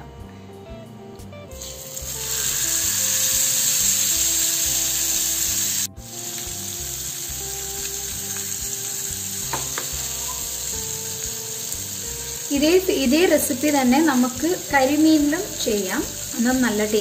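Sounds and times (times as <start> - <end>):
fish sizzling in hot oil: 1.6 - 17.0.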